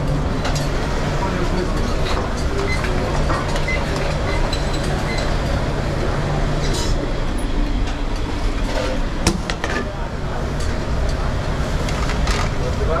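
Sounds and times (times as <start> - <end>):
extraction fans droning: 0.0 - 13.0.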